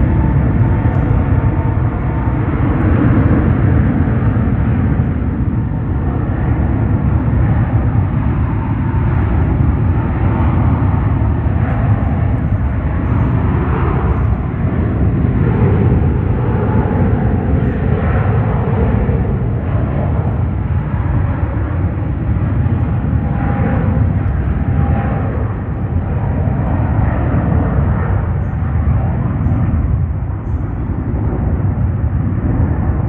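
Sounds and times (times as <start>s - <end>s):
jet engines rumbling: 0.0s - 33.0s.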